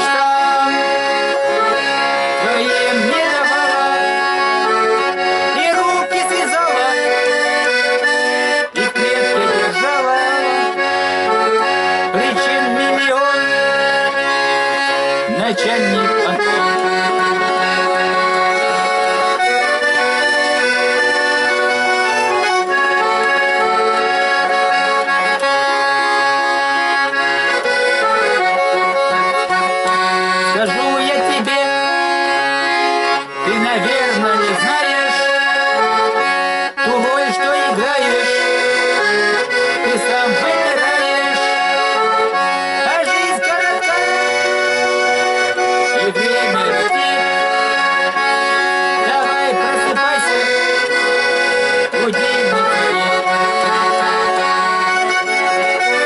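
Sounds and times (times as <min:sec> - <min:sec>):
accordion playing chords and melody: 0:00.0 - 0:56.0.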